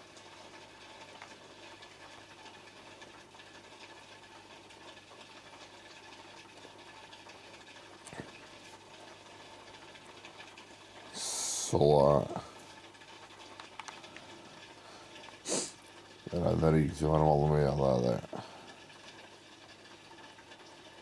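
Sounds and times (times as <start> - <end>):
aquarium pump humming and bubbling: 0.0 - 21.0.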